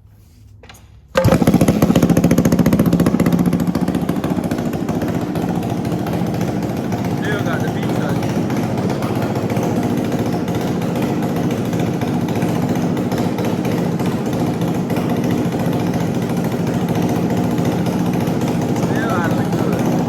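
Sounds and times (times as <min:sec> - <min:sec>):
dirt bike engine running: 0:01.1 - 0:20.0.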